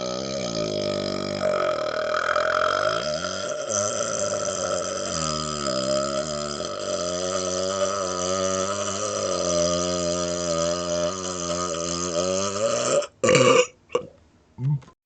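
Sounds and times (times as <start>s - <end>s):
man burping: 0.0s - 15.0s.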